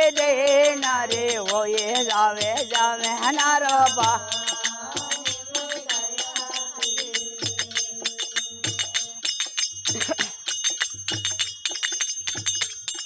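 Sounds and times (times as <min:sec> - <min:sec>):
hand drum beat: 0:00.0 - 0:13.0
small hand cymbals ringing: 0:00.0 - 0:13.0.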